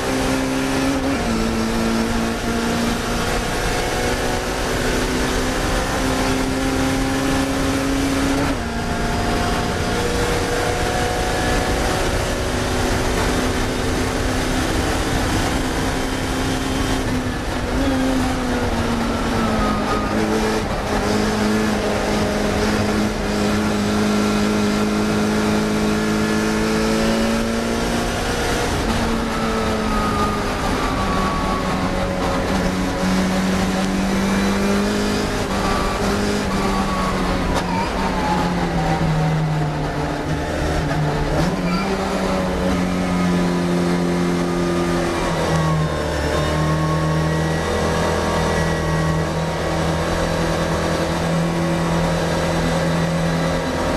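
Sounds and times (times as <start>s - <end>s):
racing car engine at high revs: 0.0s - 53.9s.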